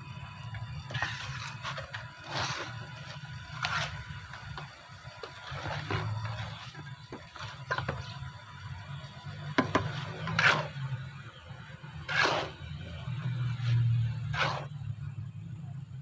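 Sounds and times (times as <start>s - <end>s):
float scraping cement: 0.3s - 8.4s, 9.4s - 14.9s.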